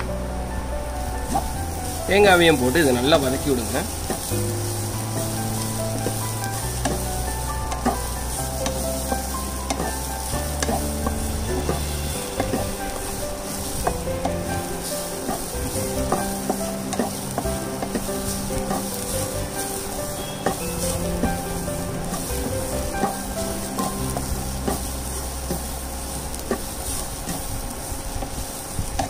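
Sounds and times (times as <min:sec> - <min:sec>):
food sizzling in a pan: 0:00.1 - 0:29.0.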